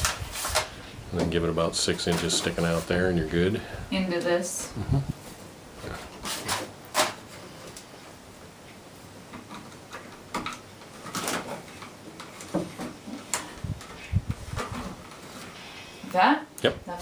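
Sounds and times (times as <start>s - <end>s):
cable scraping and rustling: 0.0s - 3.5s, 5.2s - 8.1s, 8.7s - 16.1s.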